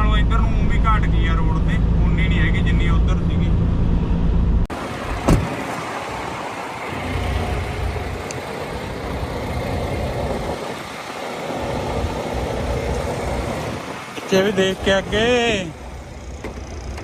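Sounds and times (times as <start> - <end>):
road noise: 0.0 - 17.0
truck engine rumble: 0.0 - 17.0.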